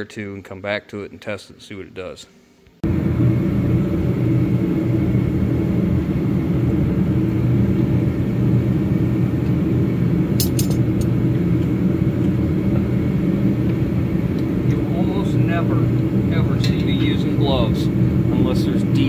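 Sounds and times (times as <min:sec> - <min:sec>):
low engine rumble: 0:02.8 - 0:19.0.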